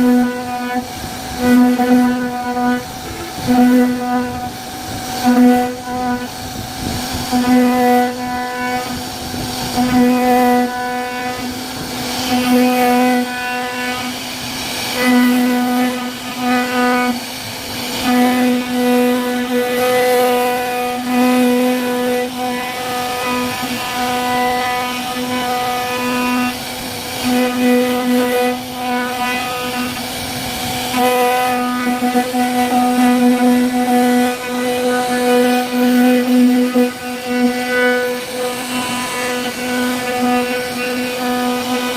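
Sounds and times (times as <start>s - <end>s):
machine whine: 0.0s - 41.9s
router cutter hissing: 0.0s - 41.9s.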